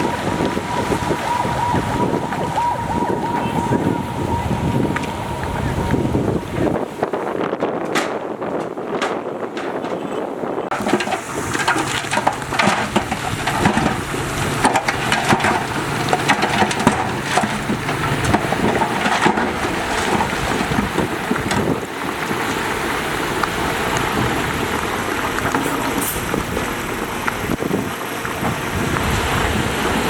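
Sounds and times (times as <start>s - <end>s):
soil and rock crunching: 0.0s - 6.8s, 7.6s - 30.0s
diesel engine running: 0.0s - 7.1s, 10.7s - 30.0s.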